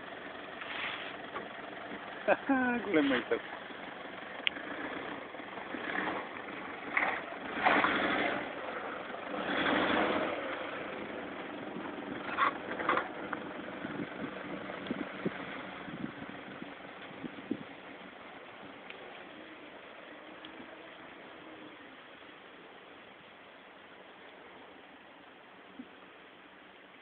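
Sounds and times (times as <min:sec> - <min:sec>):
suv engine running: 0:00.0 - 0:27.0.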